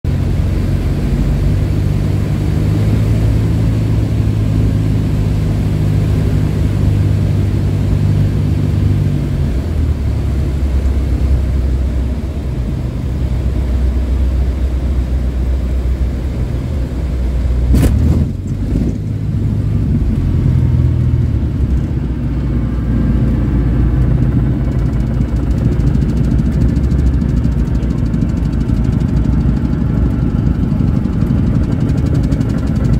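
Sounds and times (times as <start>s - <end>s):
piston aircraft engine: 0.1s - 32.9s.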